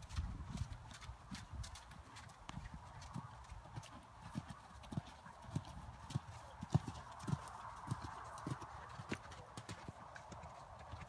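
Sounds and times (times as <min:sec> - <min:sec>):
horse hoofbeats on sand: 0:00.0 - 0:11.0.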